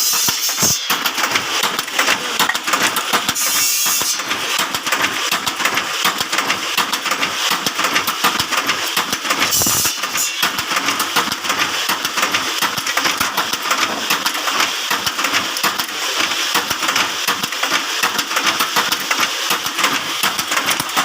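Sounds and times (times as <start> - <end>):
skewer machine clattering: 0.0 - 21.0.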